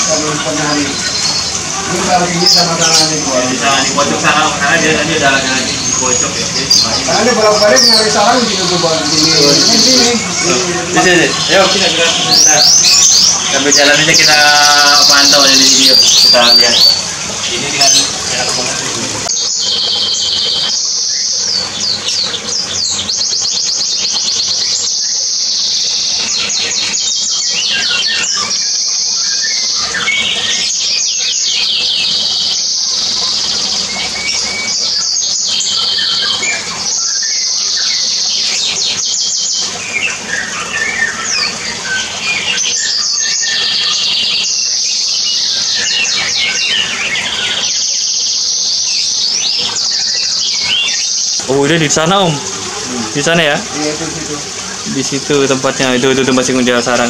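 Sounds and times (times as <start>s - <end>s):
small birds trilling and chirping: 0.0s - 57.0s.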